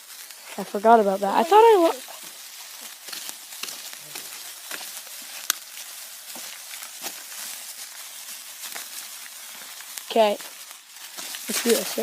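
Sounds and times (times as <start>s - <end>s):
sparkler fizzing and crackling: 0.0s - 12.0s.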